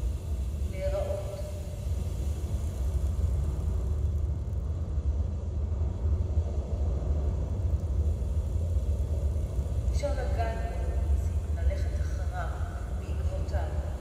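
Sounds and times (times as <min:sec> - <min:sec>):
deep electronic rumble: 0:00.0 - 0:14.0
faint hiss: 0:00.0 - 0:14.0.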